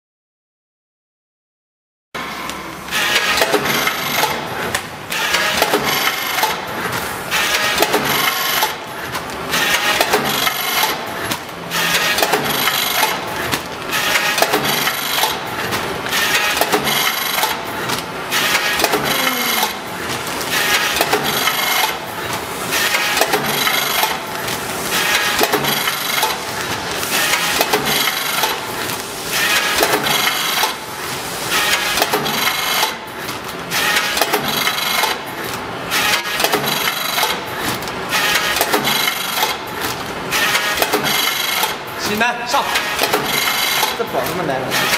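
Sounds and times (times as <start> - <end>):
packing machine scraping and clattering: 2.2 - 44.9.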